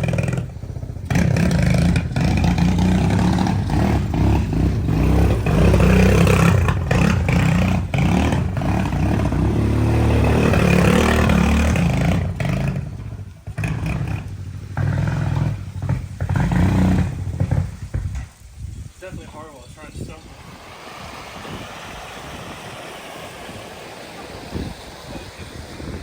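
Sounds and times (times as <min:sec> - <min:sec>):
small engine revving: 0:00.0 - 0:18.4, 0:20.2 - 0:26.0.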